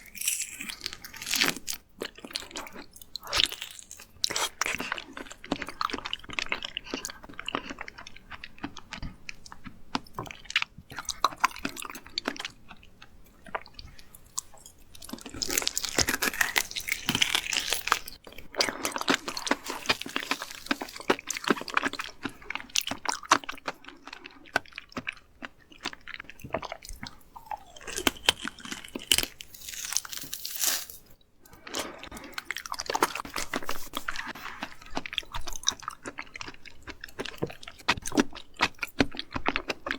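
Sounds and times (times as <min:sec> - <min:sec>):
chewing with crisp crunching: 0:00.0 - 0:39.9.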